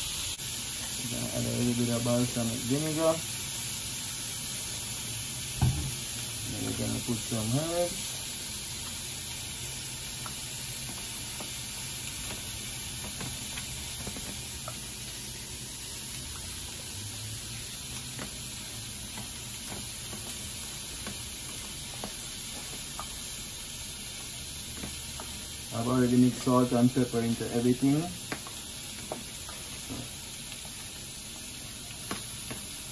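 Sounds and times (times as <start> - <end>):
fish frying in oil: 0.0 - 32.9.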